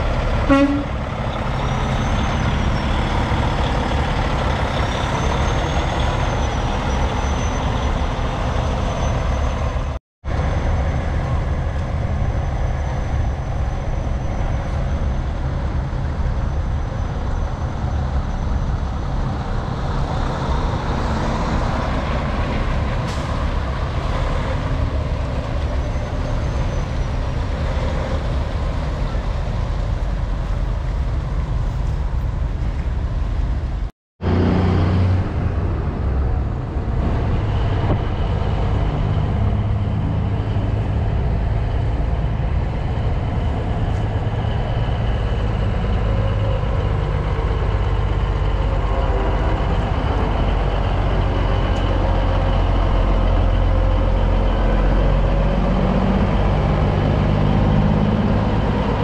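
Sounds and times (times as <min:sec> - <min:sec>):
diesel truck engines rumbling: 0:00.0 - 0:59.0.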